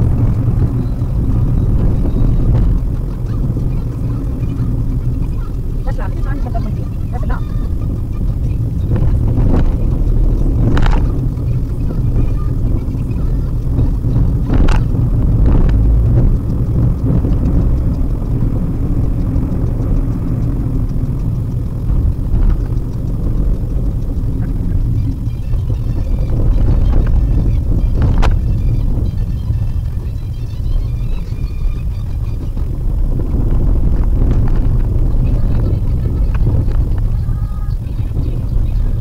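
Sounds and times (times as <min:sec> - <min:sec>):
car driving rumble: 0:00.0 - 0:39.0.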